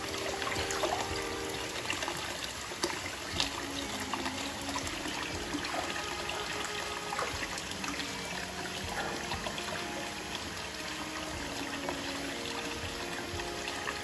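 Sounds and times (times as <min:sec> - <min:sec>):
water splashing into bath: 0:00.0 - 0:14.0.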